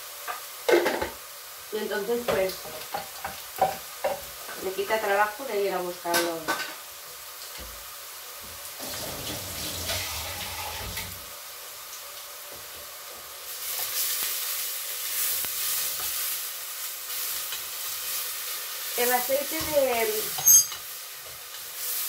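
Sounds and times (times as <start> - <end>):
vegetables sizzling in frying pan: 0.0 - 22.0.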